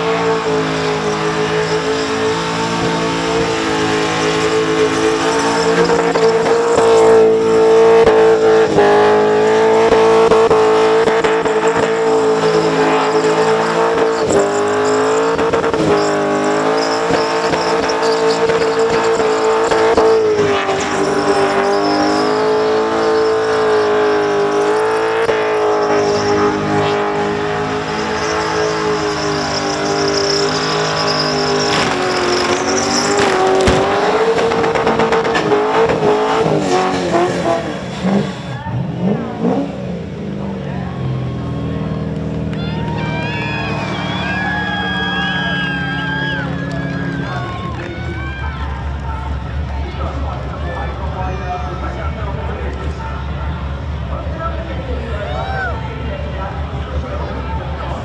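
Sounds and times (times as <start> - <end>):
car engine at high revs: 0.0 - 48.0.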